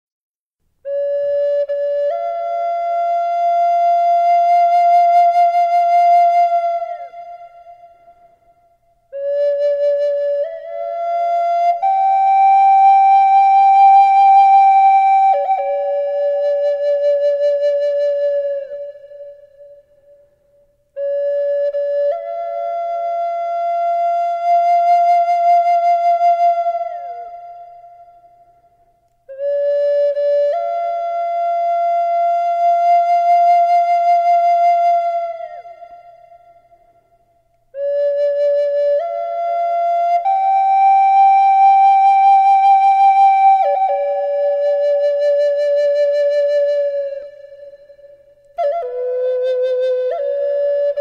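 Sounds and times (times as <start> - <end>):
solo flute: 0.6 - 51.0.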